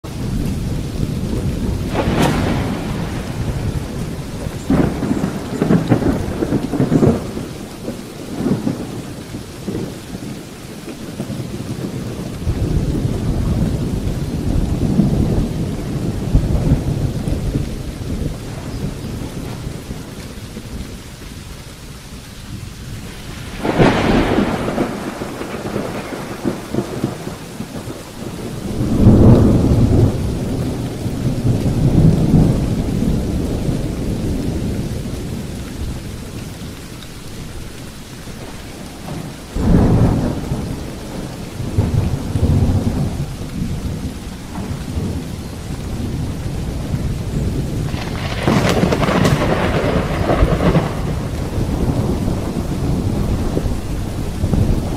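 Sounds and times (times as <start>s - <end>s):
steady rain: 0.0s - 54.9s
thunder cracking and rumbling: 0.0s - 54.9s.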